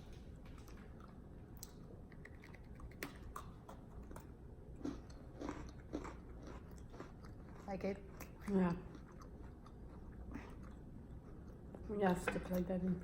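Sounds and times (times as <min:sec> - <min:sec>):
biting and chewing crisp cookie: 0:00.0 - 0:11.8.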